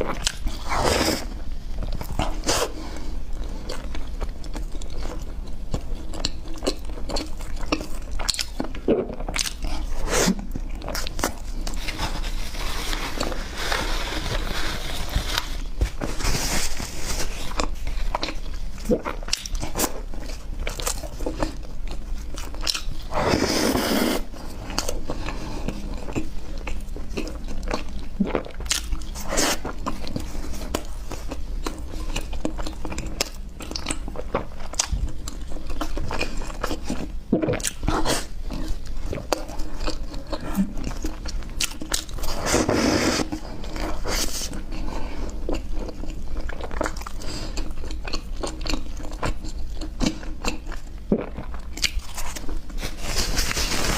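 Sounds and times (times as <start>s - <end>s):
close chewing and biting: 0.0s - 53.9s.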